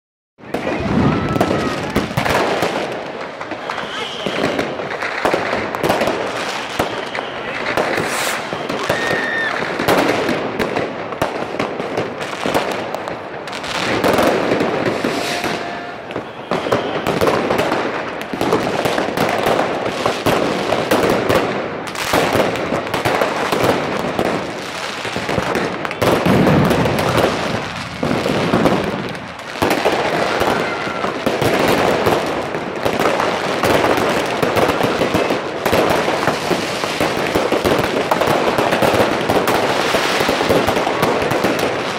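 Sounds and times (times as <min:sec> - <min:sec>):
fireworks and firecrackers bangs: 0:00.4 - 0:41.9.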